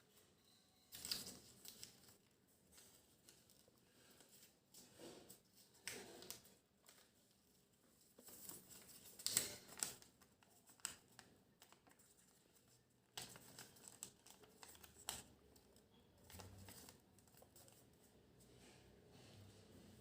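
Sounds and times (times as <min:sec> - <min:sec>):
paper crinkling and rustling: 0:00.9 - 0:18.3.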